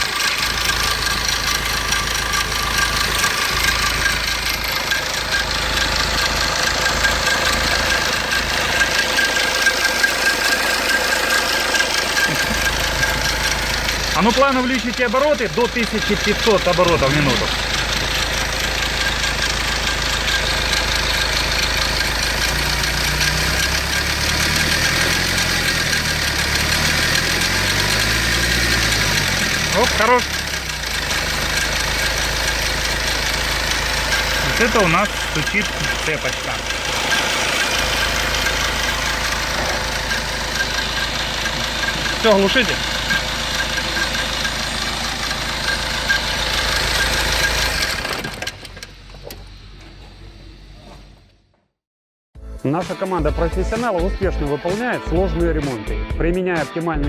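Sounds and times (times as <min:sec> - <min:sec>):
diesel engine running: 0:00.0 - 0:51.6, 0:53.2 - 0:56.2.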